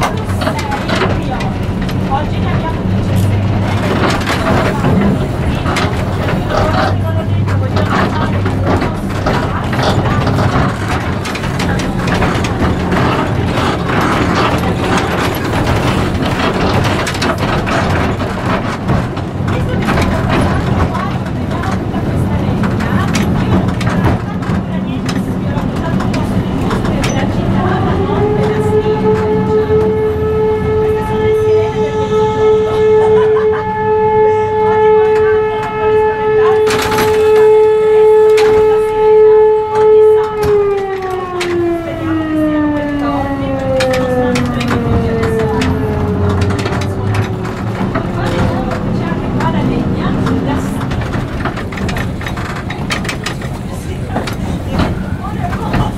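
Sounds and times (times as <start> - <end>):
electric tram humming: 0.0 - 55.9
tram body rattling and clicking: 0.0 - 55.9.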